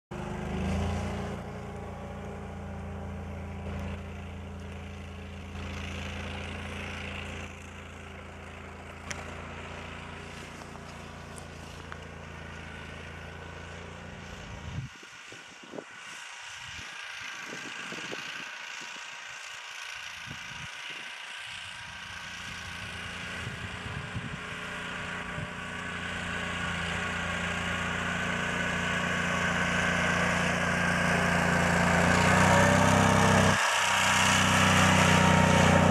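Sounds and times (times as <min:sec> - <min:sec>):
vehicle engine running: 0:00.1 - 0:35.9.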